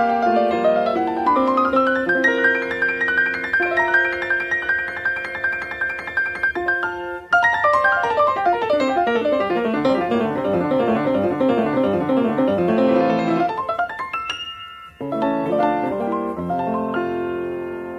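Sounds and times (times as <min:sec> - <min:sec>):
piano music: 0:00.0 - 0:17.9.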